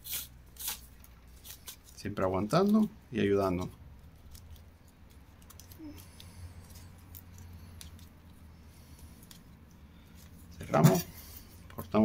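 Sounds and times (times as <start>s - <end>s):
crackles of leaf strands being woven: 0.0s - 12.0s.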